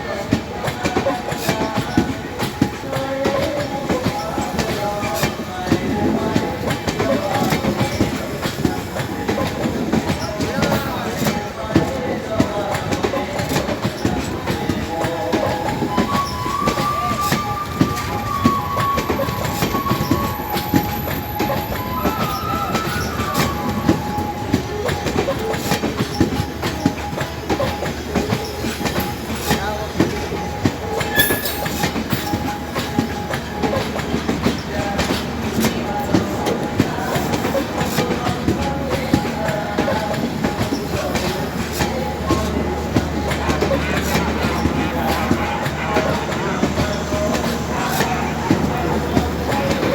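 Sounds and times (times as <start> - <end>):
train wheels clattering: 0.0 - 49.9
wheel squeal: 0.0 - 49.9.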